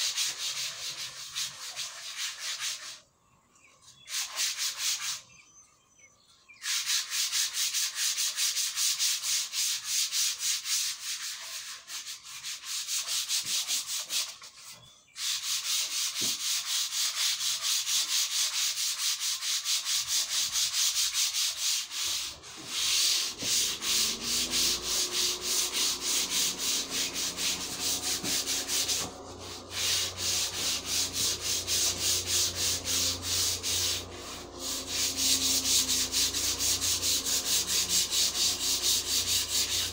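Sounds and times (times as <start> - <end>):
sanding pad rubbing wood: 0.0 - 3.0, 4.0 - 5.2, 6.6 - 39.9.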